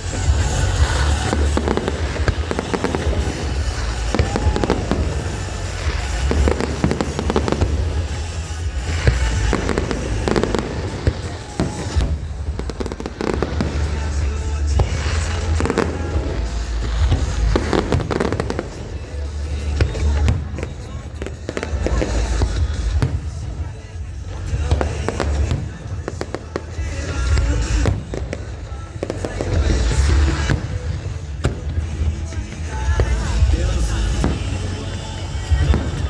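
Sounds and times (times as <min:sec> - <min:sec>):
fireworks booming and cracking: 0:00.0 - 0:36.0
music playing: 0:00.0 - 0:36.0.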